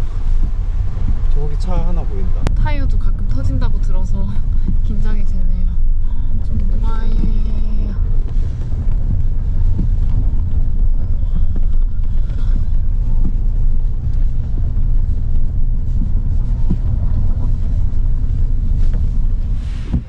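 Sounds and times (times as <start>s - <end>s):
heavy rain and wind: 0.0s - 20.0s.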